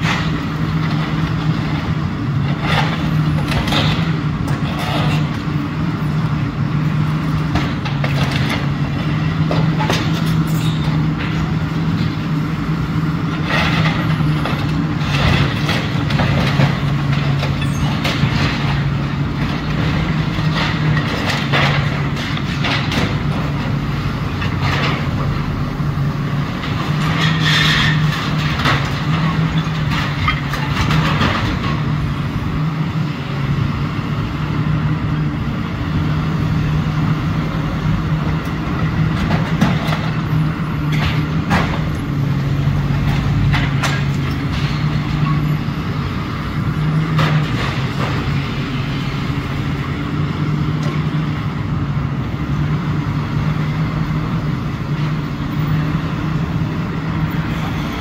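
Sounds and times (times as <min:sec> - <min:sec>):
building material crunching and clanking: 0:00.0 - 0:06.5, 0:07.2 - 0:33.0, 0:37.5 - 0:51.9
excavator diesel engine running: 0:00.0 - 0:58.0.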